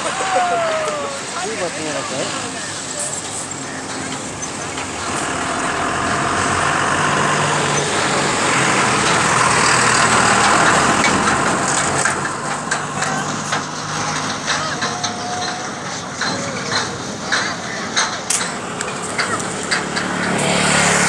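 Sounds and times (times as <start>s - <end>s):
broad rushing noise: 0.0s - 21.0s
vehicle engine hum: 0.0s - 21.0s.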